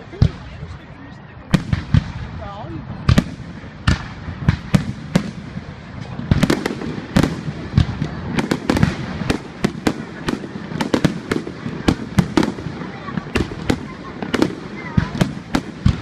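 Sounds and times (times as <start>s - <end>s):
fireworks bangs: 0.0s - 0.8s, 1.5s - 16.0s.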